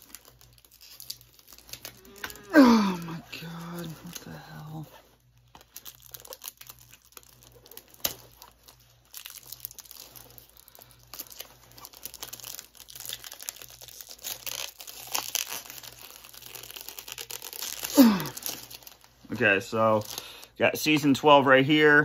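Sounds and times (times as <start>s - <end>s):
plastic wrapping crackling: 0.0s - 21.4s.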